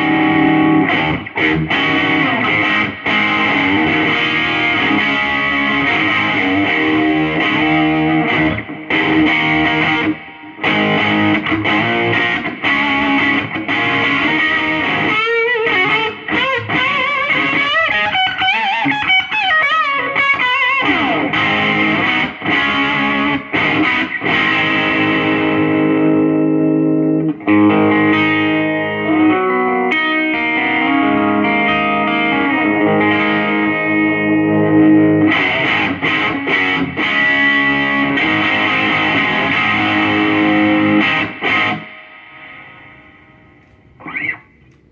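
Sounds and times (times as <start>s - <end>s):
electric guitar with reverb: 0.0s - 44.9s.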